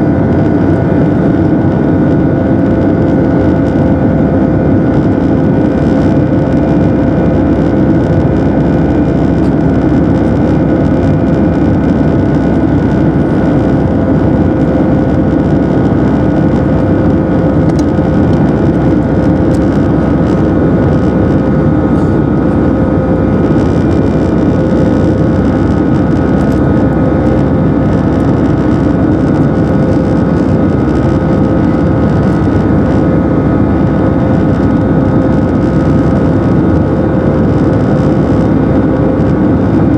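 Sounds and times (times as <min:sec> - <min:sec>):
jet cabin roar with whining tones: 0:00.0 - 0:39.9.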